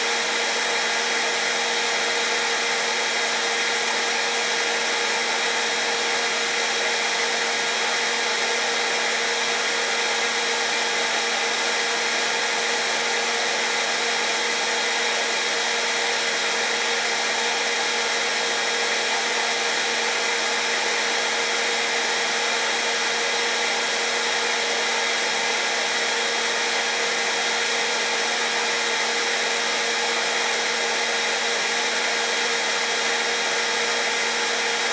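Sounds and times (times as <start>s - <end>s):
hair dryer running: 0.0s - 34.9s.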